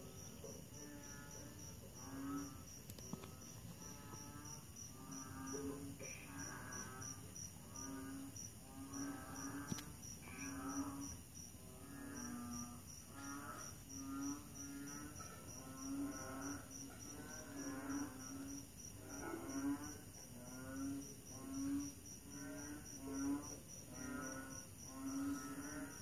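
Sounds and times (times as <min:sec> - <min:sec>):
crickets chirping: 0:00.0 - 0:26.0
frogs croaking: 0:00.0 - 0:26.0.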